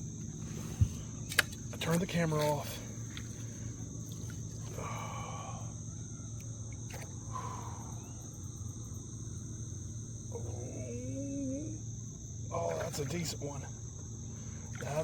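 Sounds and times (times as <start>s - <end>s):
insects chirring: 0.0s - 15.0s
low steady hum: 0.0s - 15.0s.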